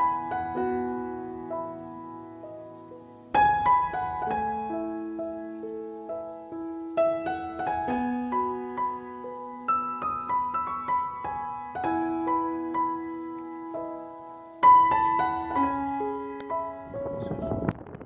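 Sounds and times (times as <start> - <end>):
piano notes and chords: 0.0 - 18.0.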